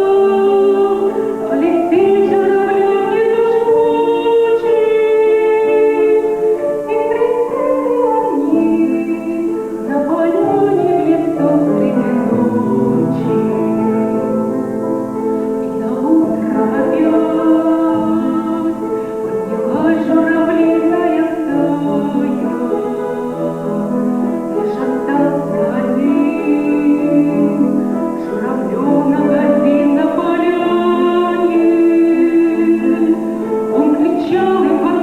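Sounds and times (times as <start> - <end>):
instrumental accompaniment: 0.0 - 35.0
woman singing with vibrato: 0.0 - 35.0.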